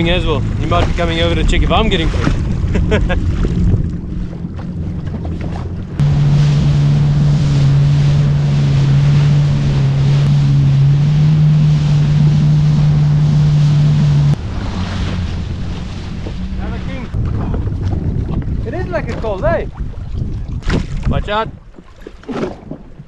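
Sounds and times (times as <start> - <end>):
personal watercraft engine: 0.0 - 23.0
water and wind rushing: 0.0 - 23.0.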